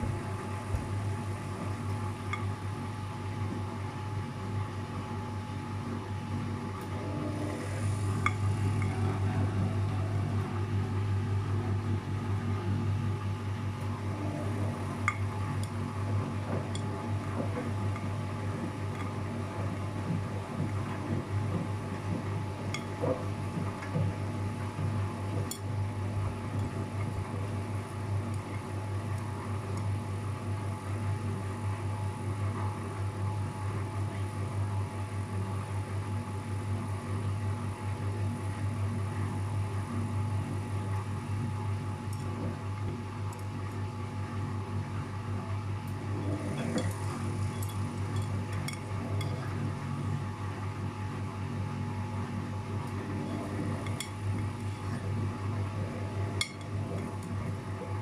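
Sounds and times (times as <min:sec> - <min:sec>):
washing machine drum humming: 0:00.0 - 0:58.0.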